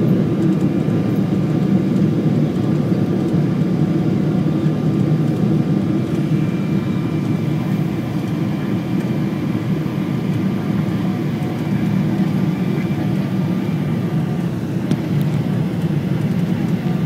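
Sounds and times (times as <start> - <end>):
airliner engines and rushing air: 0.0 - 17.0
faint steady whine: 0.0 - 17.0.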